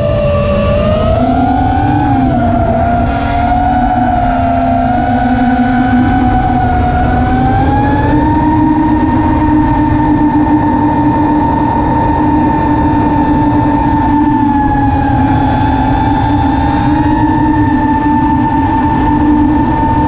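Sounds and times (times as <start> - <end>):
drone motors whining: 0.0 - 20.0
wind rushing: 0.0 - 20.0.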